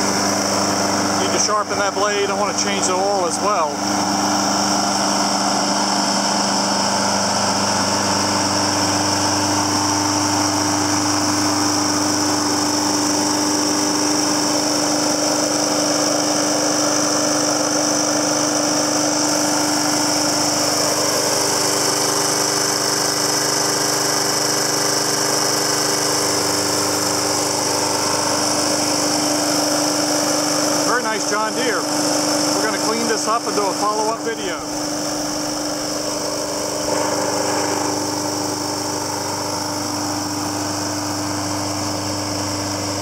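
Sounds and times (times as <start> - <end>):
lawn mower engine running: 0.0 - 43.0.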